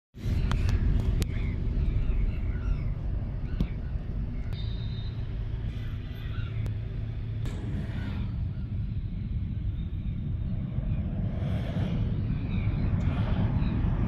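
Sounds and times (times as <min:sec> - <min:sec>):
vehicle road and engine rumble: 0:00.2 - 0:14.0.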